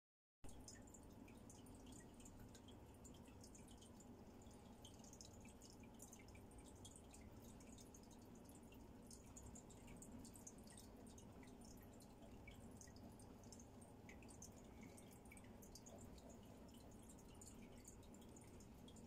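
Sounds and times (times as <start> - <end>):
aquarium water trickling and bubbling: 0.4 - 19.0
steady low hum: 0.5 - 19.0.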